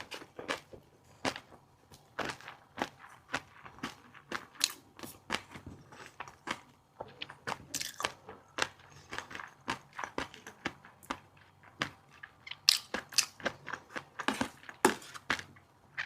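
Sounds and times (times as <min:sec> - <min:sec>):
crunchy seafood eating: 0:00.0 - 0:16.0.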